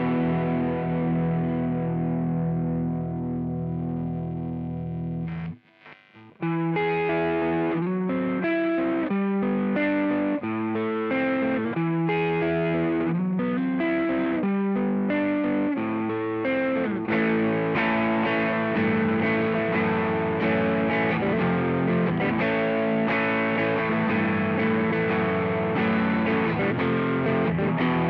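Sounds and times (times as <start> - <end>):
overdriven electric guitar notes: 0.0 - 28.0.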